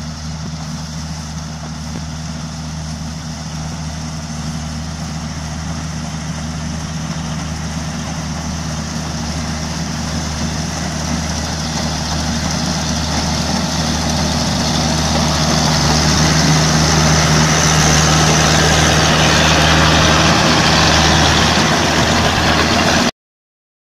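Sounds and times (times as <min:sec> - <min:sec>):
combine harvester running: 0:00.0 - 0:23.1.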